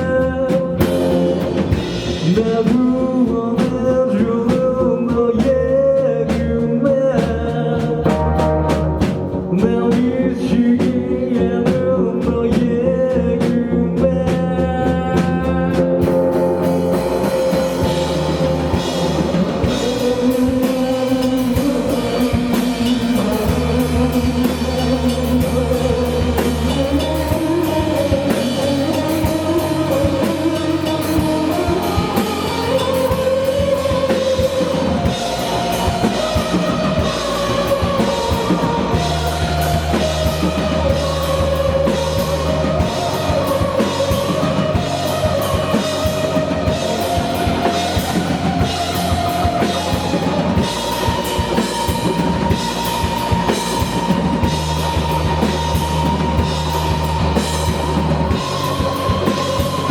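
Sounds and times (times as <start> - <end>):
bass notes: 0.0 - 59.9
drum kit with cymbals: 0.0 - 59.9.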